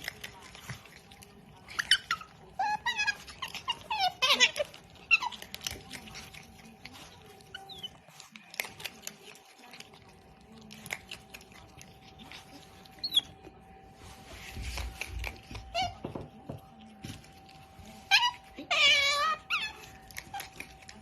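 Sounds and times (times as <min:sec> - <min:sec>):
otter chewing crunchy food: 0:00.0 - 0:21.0.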